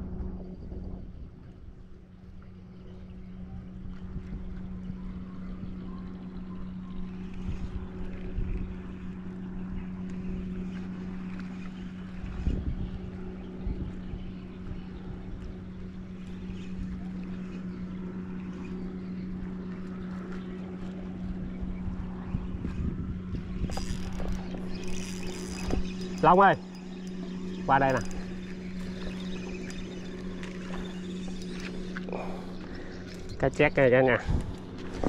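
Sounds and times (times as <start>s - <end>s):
wind on microphone: 0.0s - 18.1s, 21.0s - 35.0s
motorboat engine humming: 0.0s - 35.0s.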